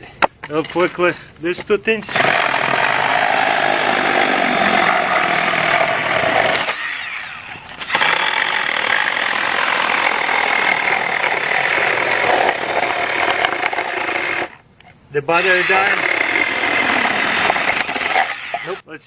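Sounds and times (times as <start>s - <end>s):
mini chainsaw cutting wood: 2.1s - 14.5s, 15.4s - 18.8s.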